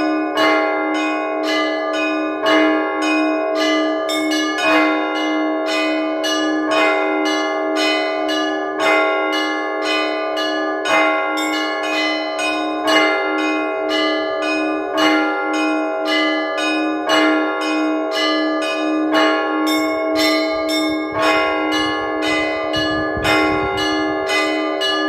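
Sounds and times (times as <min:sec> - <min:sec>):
deep church bell: 0:00.0 - 0:25.0
small church bells struck quickly: 0:00.0 - 0:25.0.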